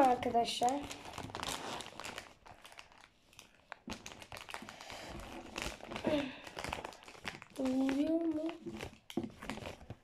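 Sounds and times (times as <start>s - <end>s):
plastic chip packet crinkling: 0.0s - 10.0s.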